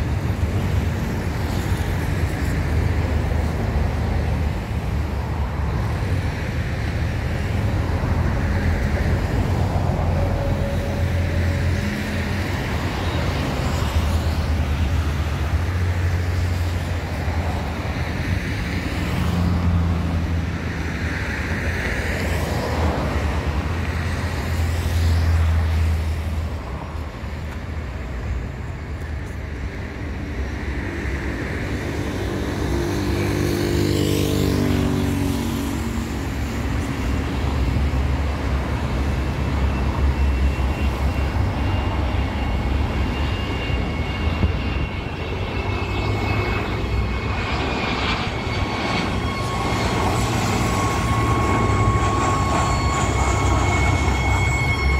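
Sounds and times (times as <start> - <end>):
high jet engine whine: 0.0 - 54.9
jet engines on approach: 0.0 - 54.9
road traffic rumble: 0.0 - 54.9.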